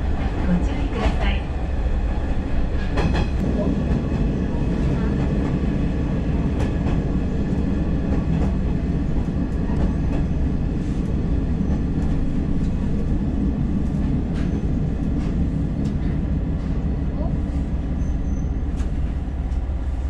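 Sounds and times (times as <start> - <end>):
train engine rumble: 0.0 - 20.0.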